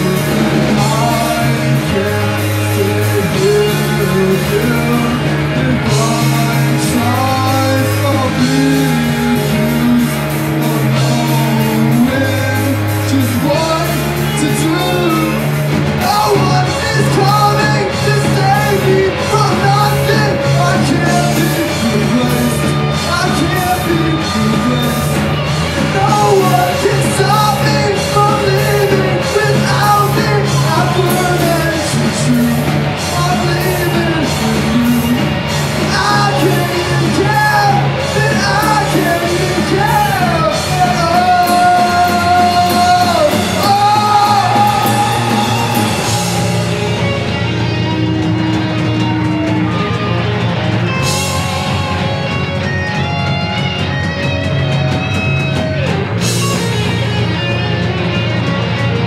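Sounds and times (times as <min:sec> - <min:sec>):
man singing: 0:00.0 - 0:47.4
drum kit: 0:00.0 - 0:59.0
electric guitars: 0:00.0 - 0:59.0.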